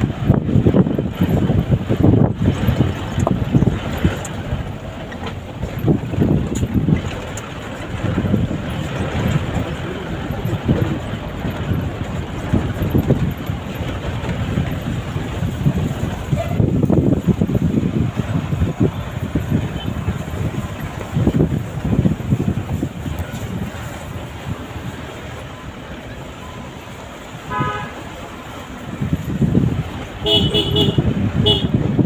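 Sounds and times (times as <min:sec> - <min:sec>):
vehicle knocks and rattles: 0:00.0 - 0:27.1
engine and road rumble: 0:00.0 - 0:32.0
wind on microphone: 0:00.0 - 0:32.0.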